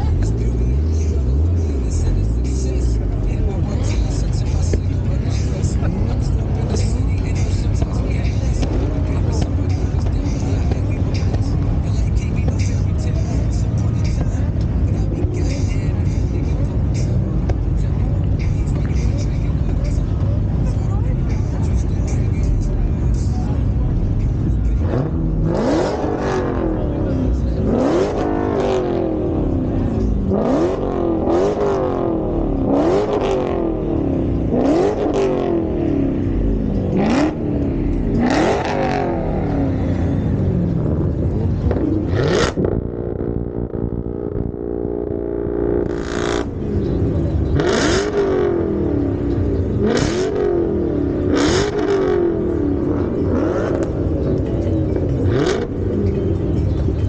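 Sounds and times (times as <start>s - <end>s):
car engine idling: 0.0s - 57.0s
car engine revving: 0.0s - 57.0s.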